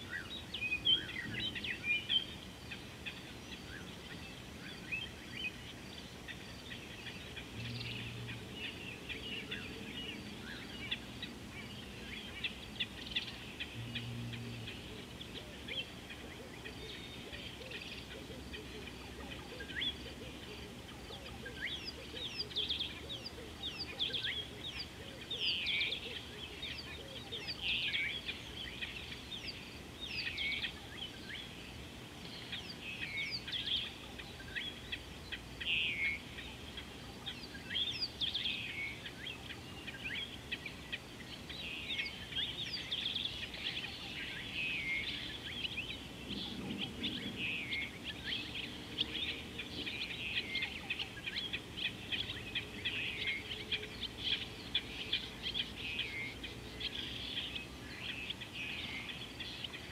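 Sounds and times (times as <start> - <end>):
birds chirping: 0.0 - 59.9
faint low hum: 0.0 - 59.9.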